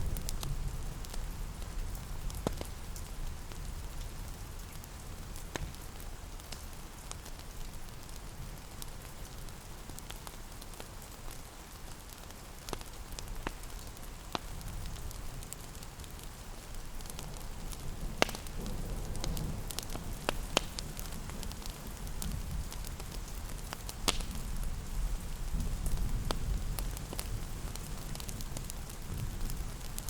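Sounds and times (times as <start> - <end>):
rain pattering: 0.0 - 30.0
wood fire crackling: 0.0 - 30.0.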